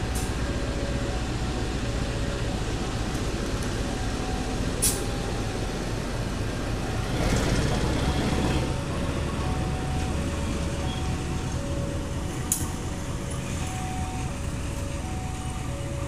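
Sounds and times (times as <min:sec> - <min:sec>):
diesel locomotive engine: 0:00.0 - 0:16.0
wheels rumbling on rails: 0:00.0 - 0:16.0.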